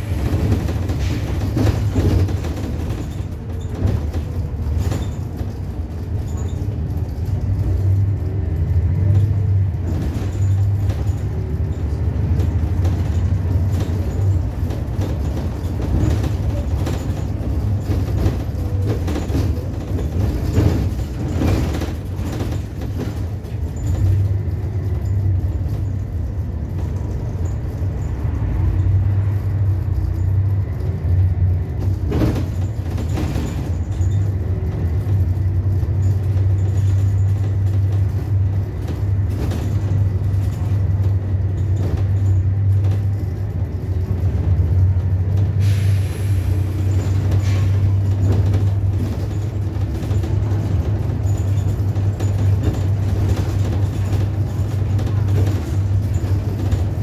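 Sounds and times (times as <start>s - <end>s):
bus engine drone: 0.0s - 57.0s
rattles and knocks from bus body: 0.0s - 57.0s.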